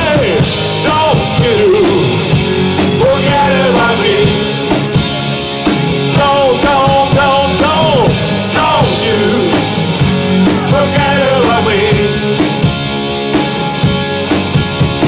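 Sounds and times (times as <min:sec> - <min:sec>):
drum beat: 0:00.0 - 0:15.0
electric guitars: 0:00.0 - 0:15.0.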